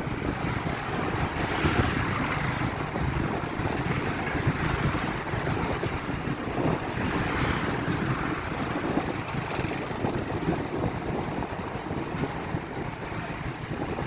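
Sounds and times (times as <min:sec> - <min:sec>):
motorbike engine and road rumble: 0:00.0 - 0:14.0
wind buffeting microphone: 0:00.0 - 0:14.0.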